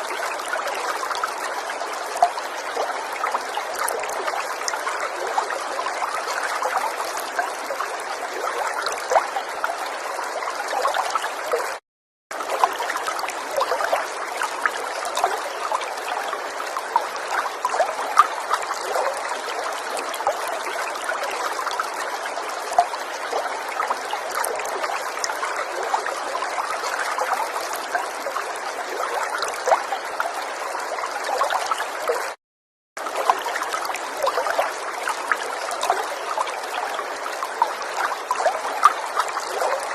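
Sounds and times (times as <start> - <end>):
river water rushing and trickling: 0.0 - 11.8, 12.4 - 32.4, 33.0 - 39.9.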